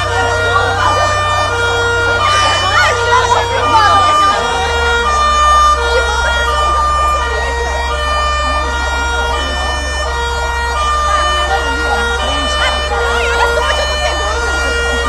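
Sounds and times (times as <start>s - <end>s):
fire truck two-tone siren: 0.0s - 15.0s.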